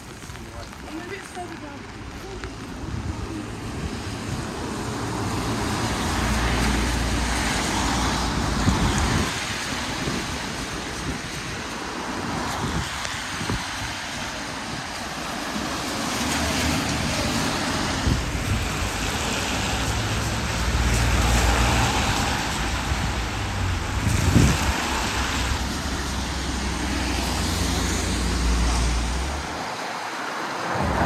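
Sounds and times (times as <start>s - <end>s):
tyre hiss on wet road: 0.0s - 31.0s.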